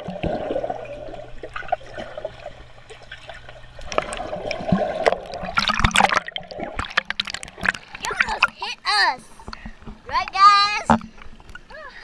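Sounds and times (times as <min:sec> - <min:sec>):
underwater bubbling and swishing: 0:00.0 - 0:12.0.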